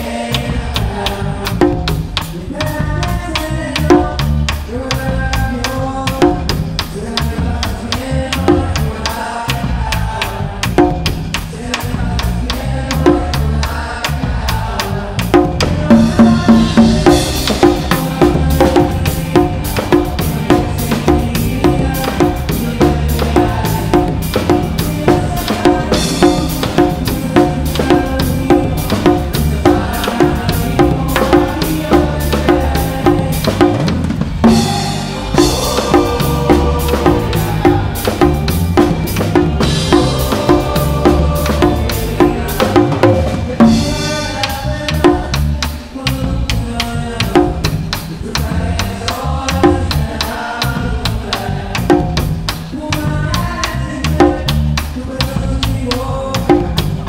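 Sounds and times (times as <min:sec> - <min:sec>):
drum kit: 0:00.0 - 0:57.0
live band music: 0:00.0 - 0:57.0
congas and bongos: 0:00.1 - 0:09.8, 0:10.6 - 0:46.6, 0:47.2 - 0:57.0.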